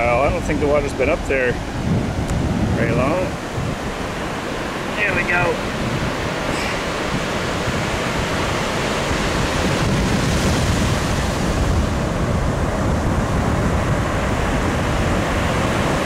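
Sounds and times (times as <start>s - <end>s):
surf washing over sand: 0.0s - 16.0s
wind buffeting microphone: 0.0s - 16.0s.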